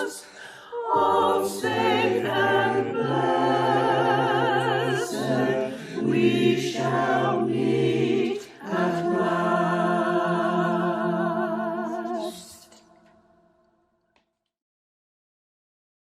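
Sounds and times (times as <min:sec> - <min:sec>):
choir singing held chords: 0:00.0 - 0:13.7.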